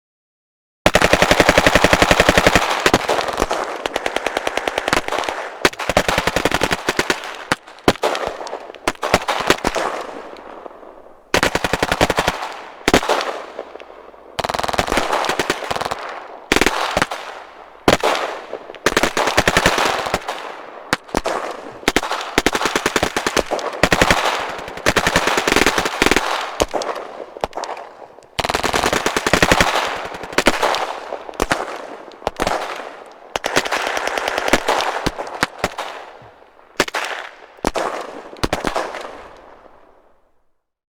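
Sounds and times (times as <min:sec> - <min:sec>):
automatic gunfire bursts: 0:00.9 - 0:39.4
gunfire echo: 0:00.9 - 0:40.3.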